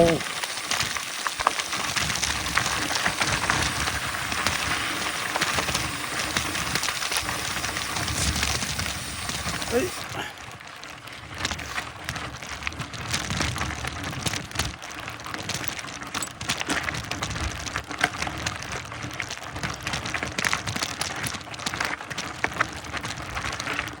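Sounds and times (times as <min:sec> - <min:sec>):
bike rattling: 0:00.0 - 0:24.0
bike tyres crunching on dirt: 0:00.0 - 0:24.0.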